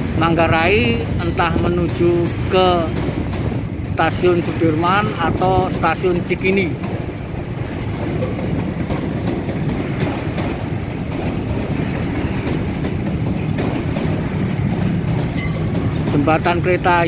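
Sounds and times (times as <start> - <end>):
train rumbling across bridge: 0.0 - 17.0.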